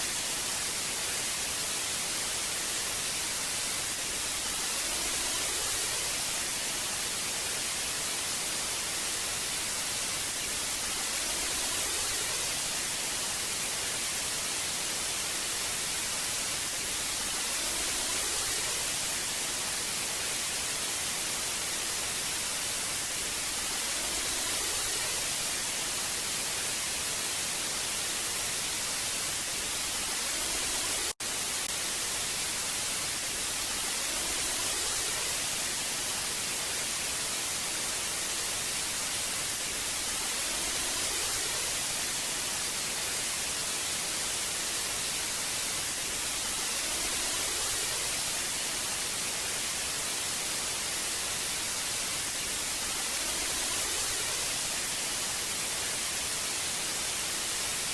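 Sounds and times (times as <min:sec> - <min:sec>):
television static hiss: 0:00.0 - 0:57.9.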